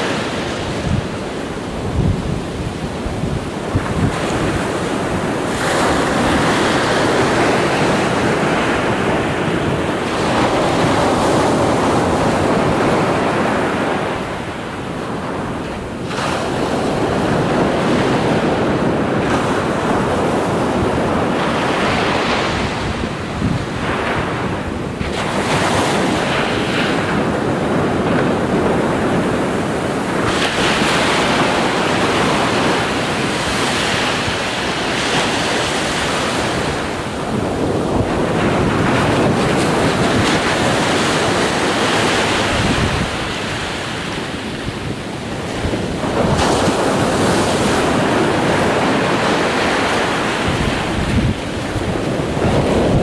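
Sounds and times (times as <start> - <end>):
ocean surf rushing: 0.0 - 53.0.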